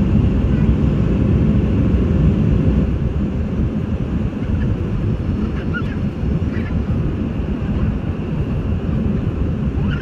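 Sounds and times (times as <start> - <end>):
airliner cabin engine noise: 0.0 - 10.0.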